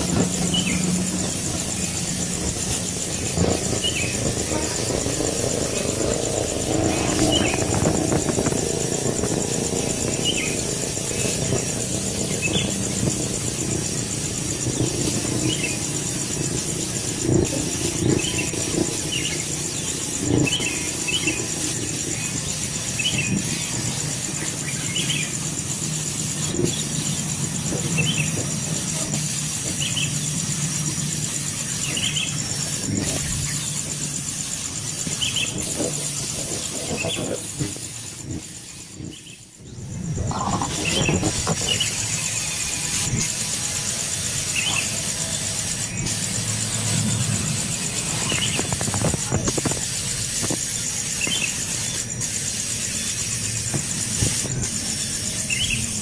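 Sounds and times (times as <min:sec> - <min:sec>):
high pulsing whine: 0:00.0 - 0:56.0
low outdoor hum: 0:00.0 - 0:56.0
bird chirping: 0:00.1 - 0:56.0.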